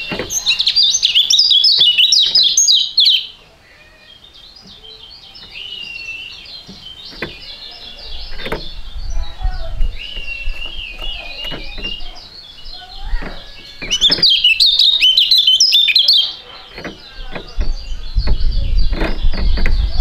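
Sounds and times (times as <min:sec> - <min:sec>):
bird singing chirps and twitters: 0:00.0 - 0:20.0.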